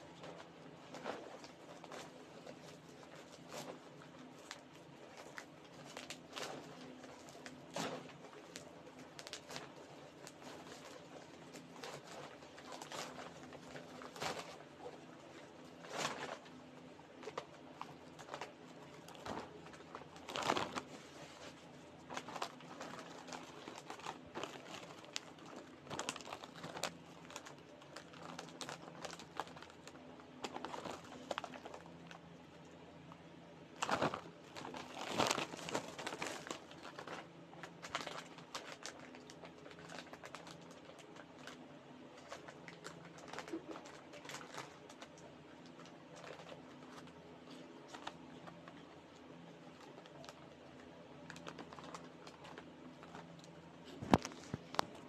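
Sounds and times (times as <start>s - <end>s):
plastic packaging crinkling: 0.0s - 32.4s, 33.8s - 55.0s.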